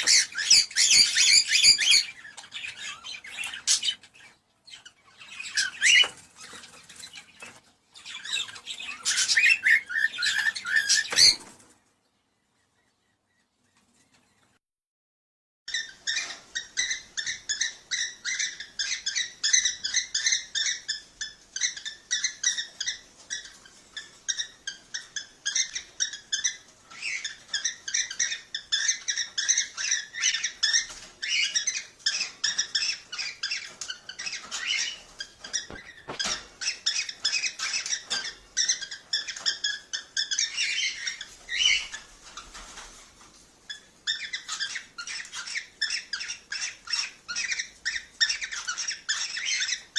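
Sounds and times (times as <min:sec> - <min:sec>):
cockatiels chirping and whistling: 0:00.0 - 0:11.6, 0:15.7 - 0:42.8, 0:43.7 - 0:49.9.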